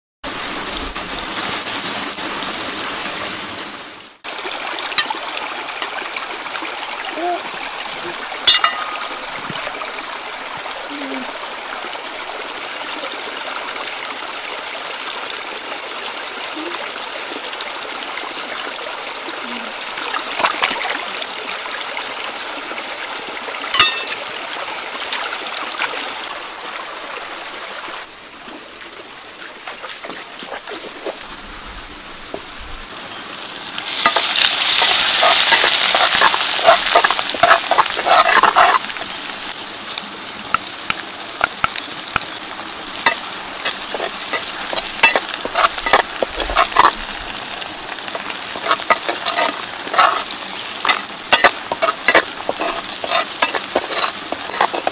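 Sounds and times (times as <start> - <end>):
stream trickling over rocks: 0.2 - 54.9.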